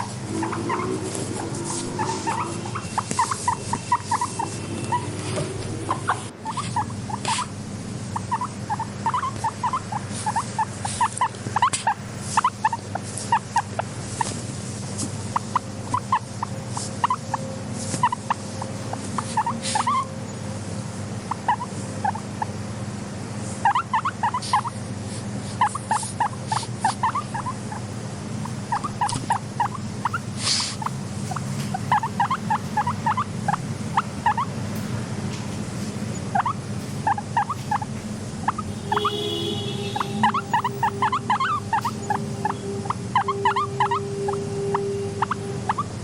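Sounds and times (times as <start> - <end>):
guinea pig squeaking: 0.0 - 22.7, 23.4 - 46.0
steady low hum: 0.0 - 46.0.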